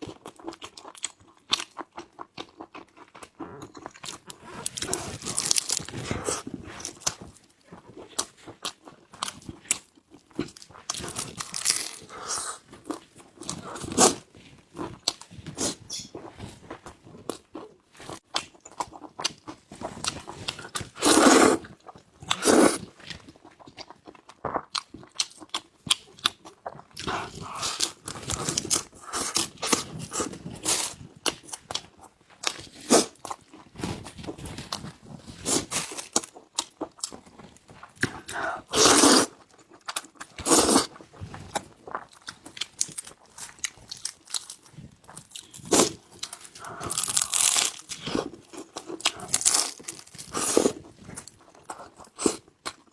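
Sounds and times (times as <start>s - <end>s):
chewing and crunching food: 0.0s - 52.9s.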